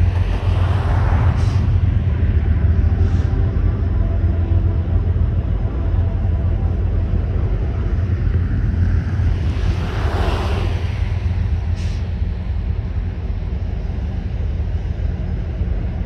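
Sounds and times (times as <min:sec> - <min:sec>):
faint steady tones: 0:00.0 - 0:16.0
freight train rumbling on rails: 0:00.0 - 0:16.0.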